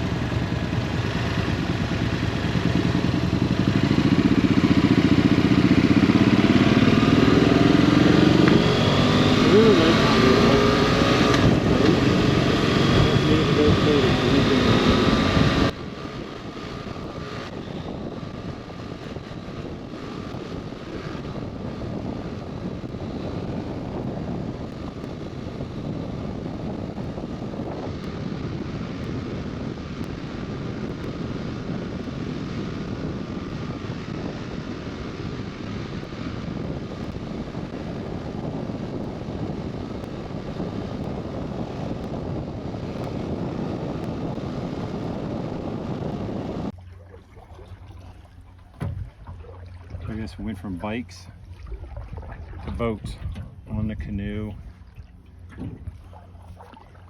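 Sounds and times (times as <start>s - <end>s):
steady engine drone: 0.0s - 57.0s.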